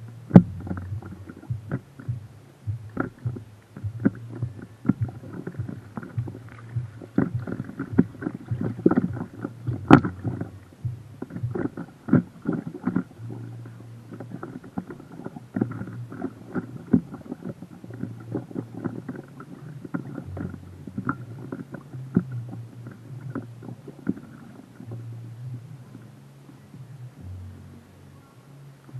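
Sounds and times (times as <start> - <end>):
low rumble: 0.0 - 28.9
water lapping against boat: 0.0 - 28.9.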